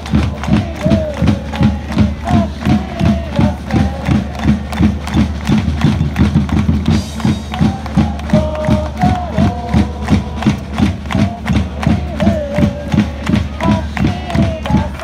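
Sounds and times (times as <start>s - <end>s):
crowd chanting a tune: 0.0s - 5.6s, 6.9s - 15.0s
bass drum beating: 0.0s - 15.0s.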